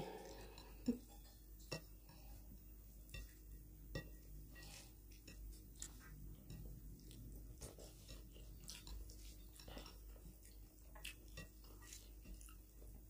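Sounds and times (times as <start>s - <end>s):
hands mixing food on plates: 0.0s - 13.0s.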